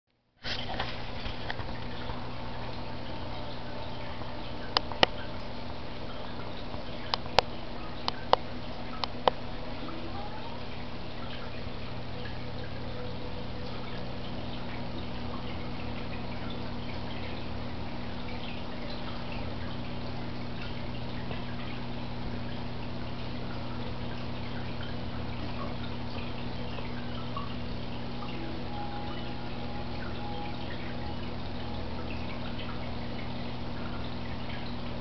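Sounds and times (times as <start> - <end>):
constant low hum: 0.4 - 35.0
water trickling and dripping: 0.4 - 35.0.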